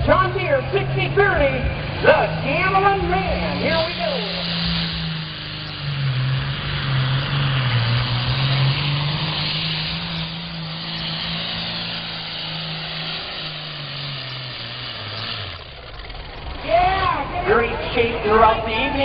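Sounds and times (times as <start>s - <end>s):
diesel tractor engine under load: 0.0s - 19.0s
loud rushing exhaust: 0.0s - 19.0s.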